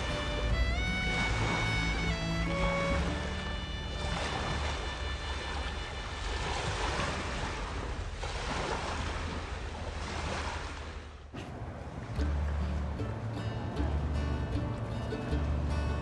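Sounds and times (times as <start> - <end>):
ocean surf washing in: 0.0 - 15.8
low wind rumble: 0.0 - 16.0.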